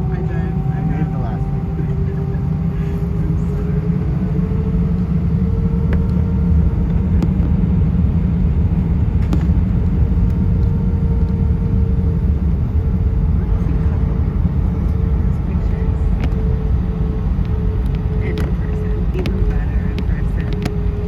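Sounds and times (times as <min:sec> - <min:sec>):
airplane cabin engine rumble: 0:00.0 - 0:21.0
steady hum: 0:00.0 - 0:21.0.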